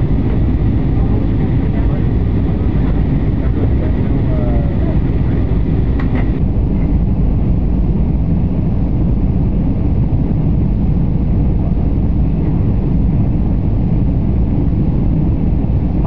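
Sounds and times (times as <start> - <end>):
engine and airflow rumble: 0.0 - 16.0.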